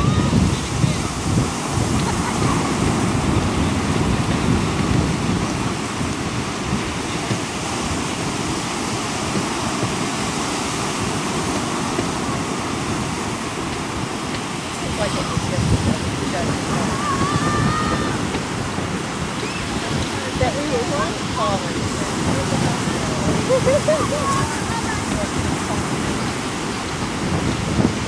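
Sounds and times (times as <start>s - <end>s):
surf washing up beach: 0.0s - 28.0s
wind rumbling on microphone: 0.0s - 28.0s.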